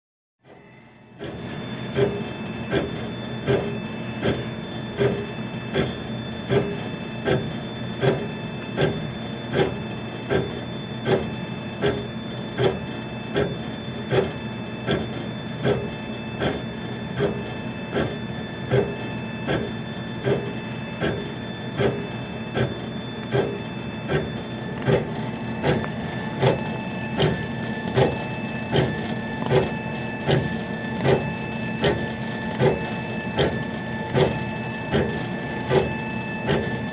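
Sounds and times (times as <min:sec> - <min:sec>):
laser engraver motor whine: 0:00.4 - 0:36.9.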